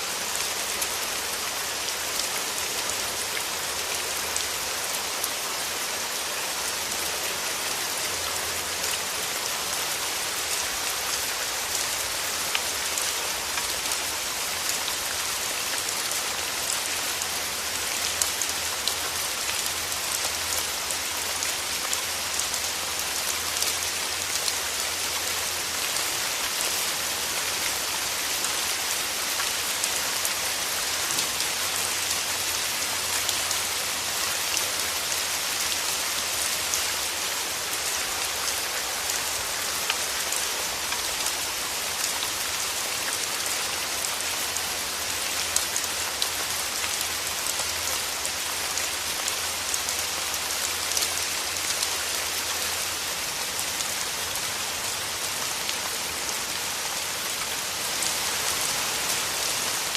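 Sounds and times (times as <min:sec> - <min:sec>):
rain falling through trees: 0:00.0 - 0:59.9.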